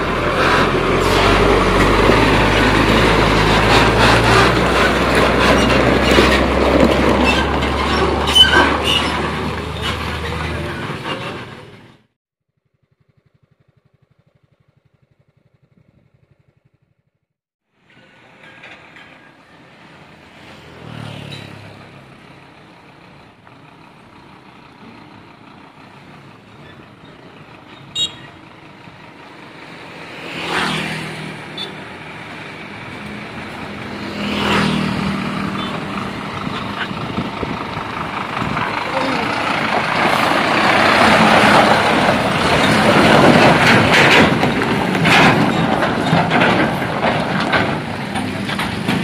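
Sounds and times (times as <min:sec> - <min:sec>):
diesel trucks on gravel road: 0:00.0 - 0:12.2, 0:17.8 - 0:49.0.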